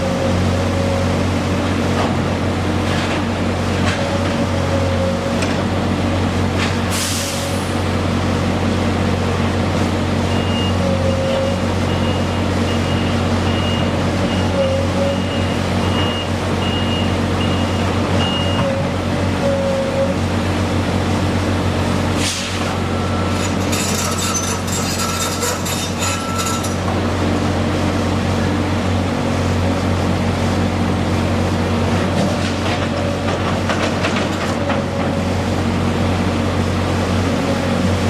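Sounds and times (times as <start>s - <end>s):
heavy engine humming: 0.0s - 38.0s.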